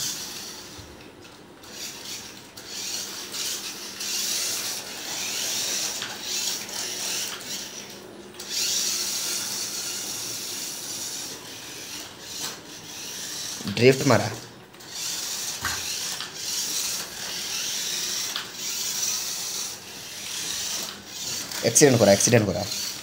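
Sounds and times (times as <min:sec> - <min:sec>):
toy car electric motor whirring: 0:00.0 - 0:23.0.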